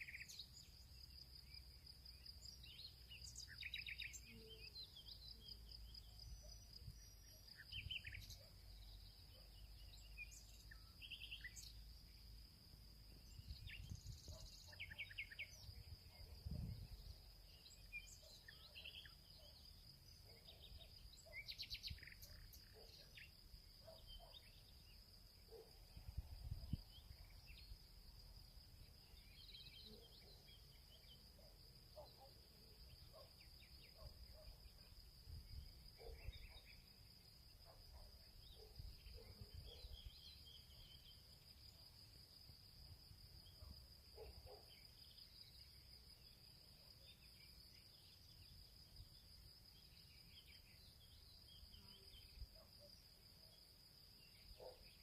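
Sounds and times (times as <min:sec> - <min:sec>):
insect drone: 0:00.0 - 0:55.0.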